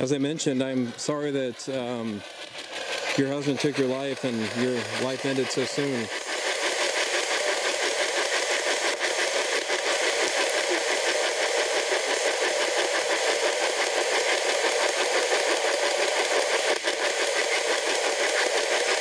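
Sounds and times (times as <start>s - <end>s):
chopping radio static: 0.0s - 19.0s.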